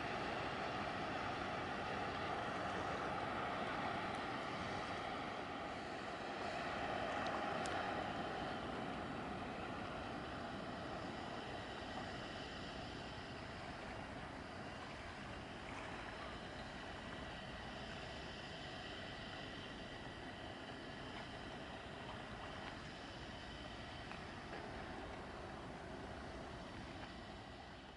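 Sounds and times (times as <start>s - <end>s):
distant tugboat engine and wake: 0.0s - 27.9s.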